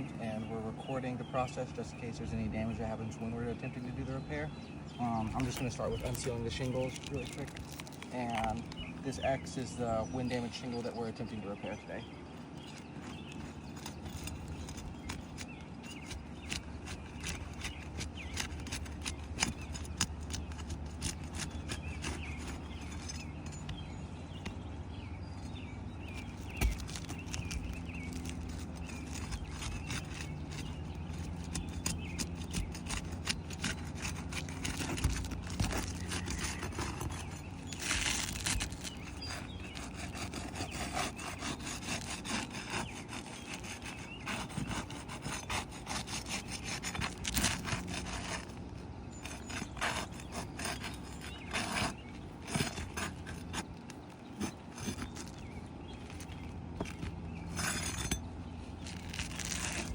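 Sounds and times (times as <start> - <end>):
shingles scraping and rasping: 5.0 - 24.7, 25.4 - 59.9.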